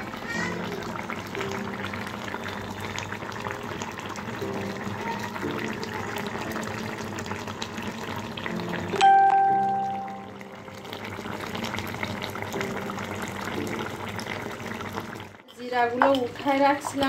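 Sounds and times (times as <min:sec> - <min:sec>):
curry bubbling in a pan: 0:00.0 - 0:17.0.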